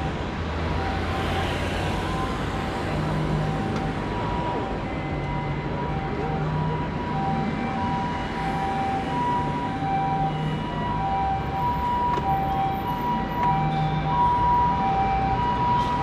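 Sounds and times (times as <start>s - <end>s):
street traffic: 0.0s - 16.0s
two-tone ambulance siren: 0.0s - 16.0s.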